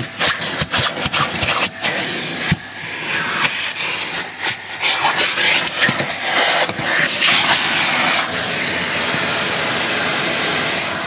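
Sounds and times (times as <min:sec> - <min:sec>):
vacuum cleaner on carpet: 0:00.0 - 0:11.0.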